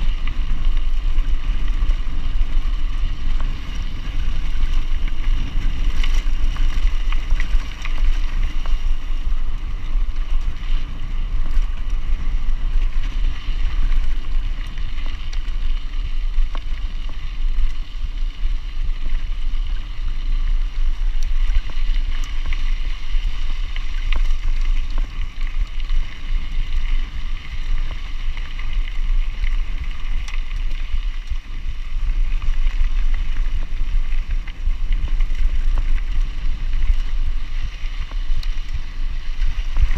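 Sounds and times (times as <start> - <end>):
bike clicks and rattles: 0.0 - 39.9
bike tyres rolling on dirt: 0.0 - 39.9
wind buffeting microphone: 0.0 - 39.9.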